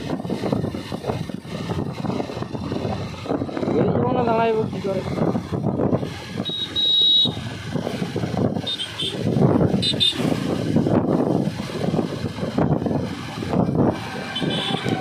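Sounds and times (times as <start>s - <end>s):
motorcycle engine running: 0.0s - 15.0s
rushing riding noise: 0.0s - 15.0s.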